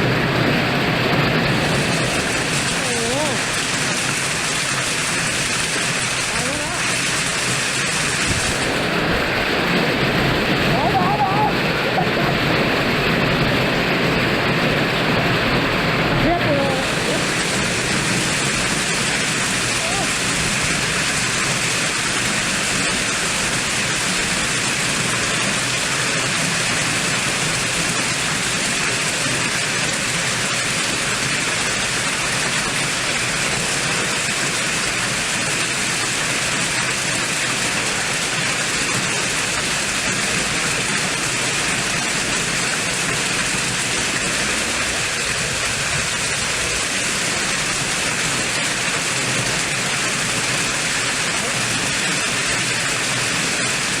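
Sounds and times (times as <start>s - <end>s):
strong wind: 0.0s - 35.3s, 37.7s - 54.0s
heavy rain: 0.0s - 54.0s.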